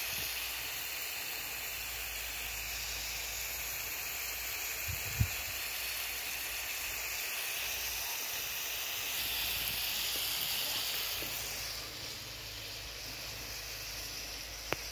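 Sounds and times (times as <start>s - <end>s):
meat sizzling on a steel pan: 0.0s - 14.9s.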